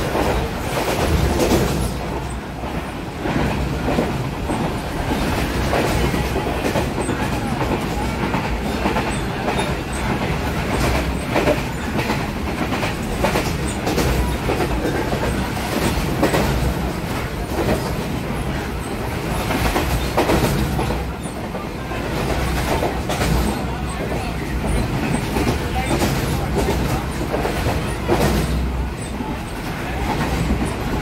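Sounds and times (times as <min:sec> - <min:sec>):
train wheels rumbling on rail: 0:00.0 - 0:31.0
wheels clacking over rail joints: 0:00.0 - 0:31.0.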